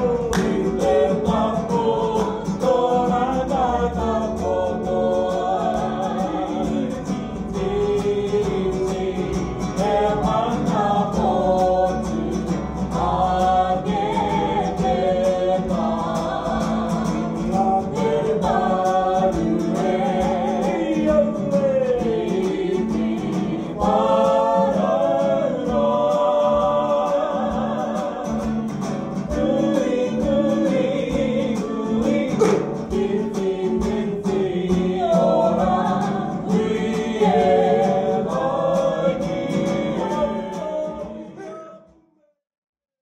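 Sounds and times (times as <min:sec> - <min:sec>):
instrumental backing music: 0:00.0 - 0:41.4
group of voices singing: 0:00.0 - 0:42.0.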